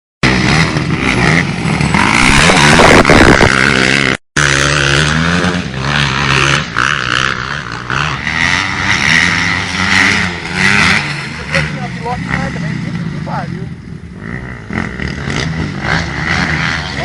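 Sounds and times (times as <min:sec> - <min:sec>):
dirt bike engines revving: 0:00.2 - 0:17.0.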